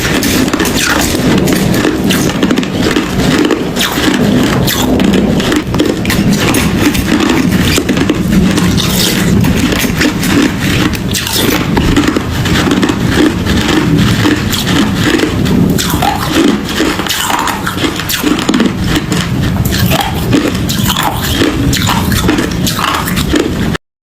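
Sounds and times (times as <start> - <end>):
ice being crunched and chewed: 0.0 - 23.8.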